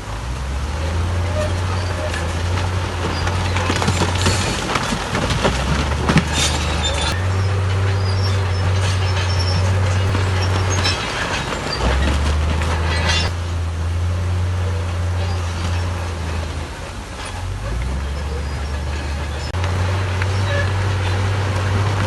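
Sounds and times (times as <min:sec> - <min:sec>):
bulldozer diesel engine: 0:00.0 - 0:22.0
steel tracks squealing and clanking: 0:00.6 - 0:22.0.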